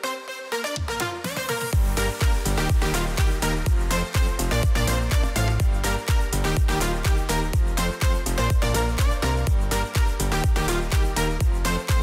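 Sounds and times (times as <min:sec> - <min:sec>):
workout music with steady beat: 0:00.0 - 0:12.0.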